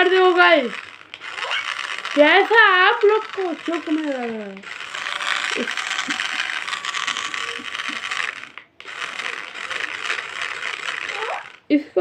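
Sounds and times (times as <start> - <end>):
toy car motor rattling whir: 0.0 - 12.0.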